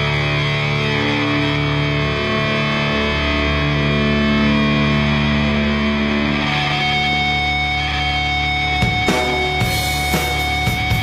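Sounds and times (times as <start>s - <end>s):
rock song with electric guitars: 0.0s - 11.0s.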